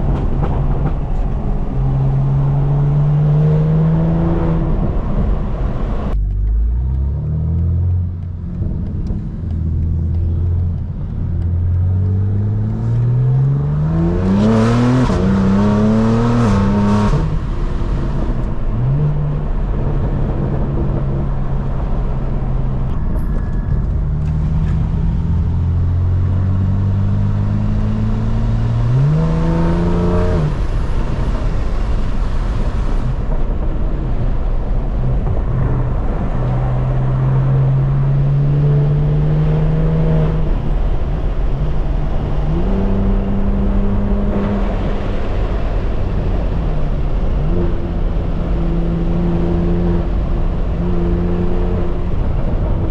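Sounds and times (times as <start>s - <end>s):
car engine accelerating through gears: 0.0s - 52.9s.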